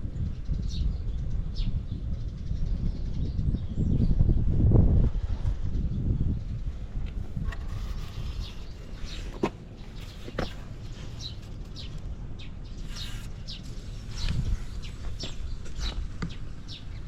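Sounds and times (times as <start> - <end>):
small birds chirping: 0.0 - 4.7, 5.5 - 17.0
steady low rumble: 0.0 - 17.0.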